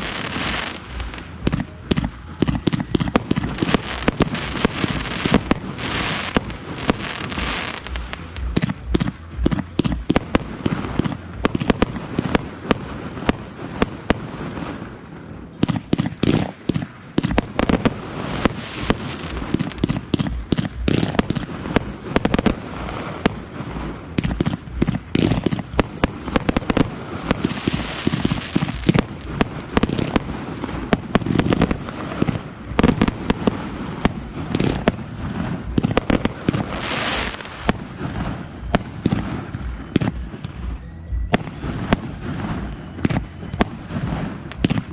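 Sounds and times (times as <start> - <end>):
fireworks hissing: 0.0 - 40.9
fireworks bangs: 0.0 - 44.9.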